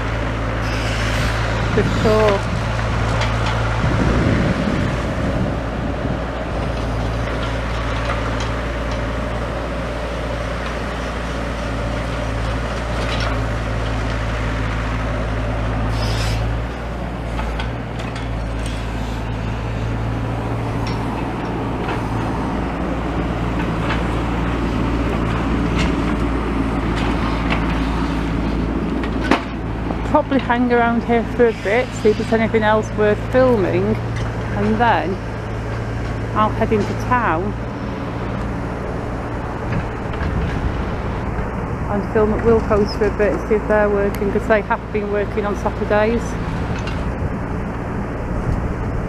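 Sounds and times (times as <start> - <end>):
digger diesel engine running: 0.0 - 49.0.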